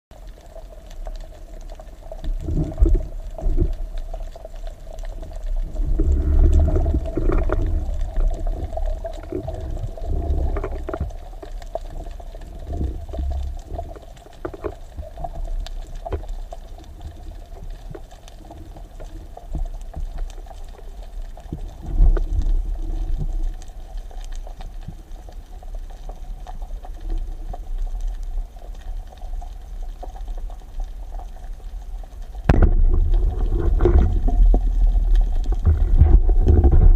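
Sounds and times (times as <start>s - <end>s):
faint clicks: 0.1s - 36.6s
muffled underwater water surges: 0.1s - 36.9s.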